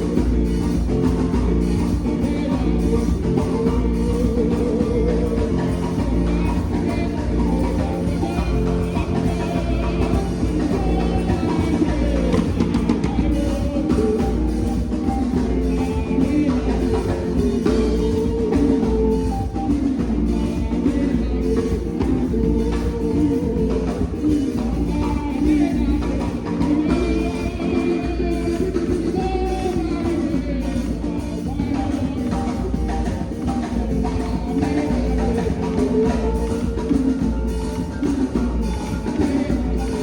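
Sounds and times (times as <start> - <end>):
rock music with singing: 0.0 - 40.0.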